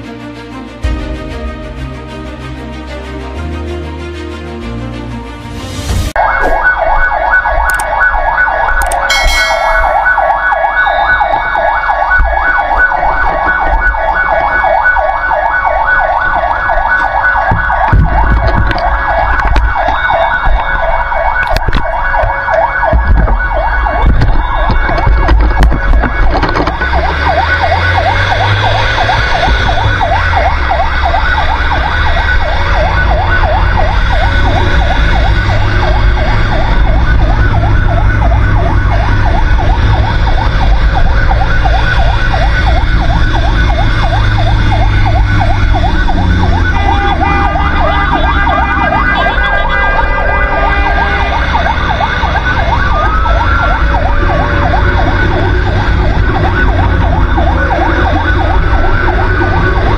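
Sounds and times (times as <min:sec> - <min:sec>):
fire truck siren yelping: 0:06.2 - 0:59.9
rise-and-fall siren tone: 0:06.2 - 0:59.9.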